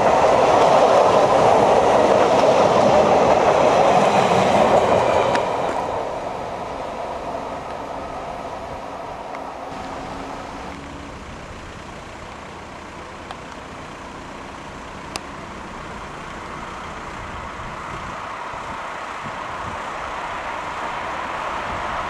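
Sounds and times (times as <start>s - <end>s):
freight train rushing rumble: 0.0s - 22.0s.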